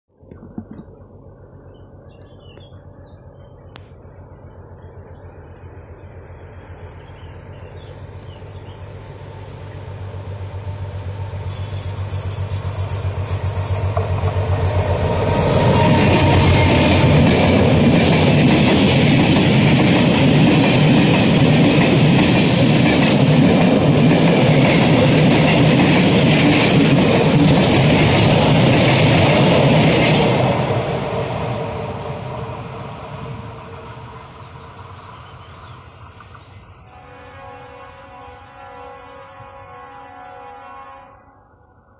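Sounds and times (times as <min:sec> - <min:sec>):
diesel locomotive engine: 0:00.4 - 0:41.9
train wheels clickety-clack: 0:02.2 - 0:38.2.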